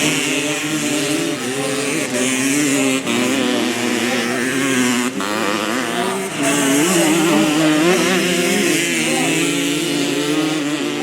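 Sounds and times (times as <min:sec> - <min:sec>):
motocross motorcycle engines revving: 0:00.0 - 0:11.0.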